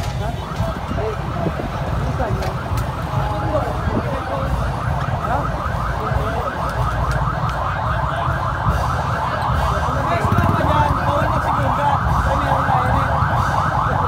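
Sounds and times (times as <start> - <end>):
electronic siren yelping: 0.2 - 14.0.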